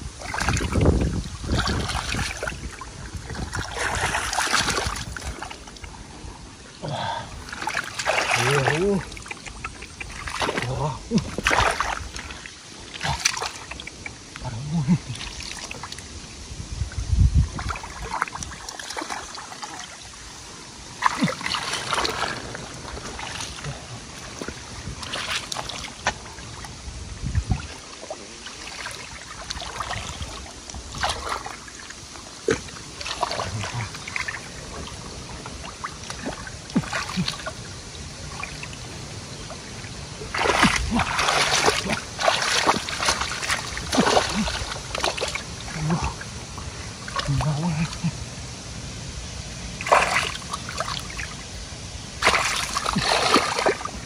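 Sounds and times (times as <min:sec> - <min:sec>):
shallow water splashing: 0:00.0 - 0:14.4, 0:15.0 - 0:48.6, 0:49.5 - 0:54.0.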